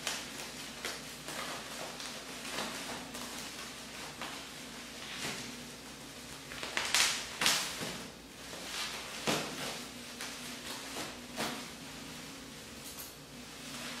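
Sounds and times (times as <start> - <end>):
bubble wrap crinkling: 0.0 - 12.4.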